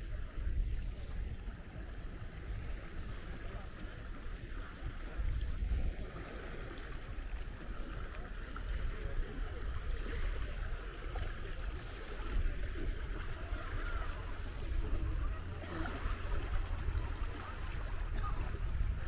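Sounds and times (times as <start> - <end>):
small waves washing on shore: 0.0 - 19.0
wind rumbling on microphone: 0.0 - 19.0.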